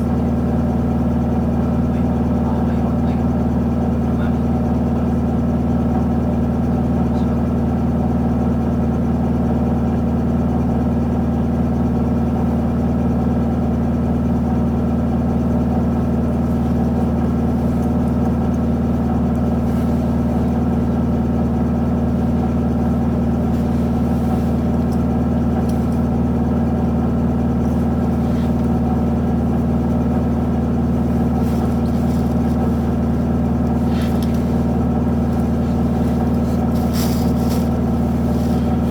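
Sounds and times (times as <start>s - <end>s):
bus diesel engine humming: 0.0s - 38.9s.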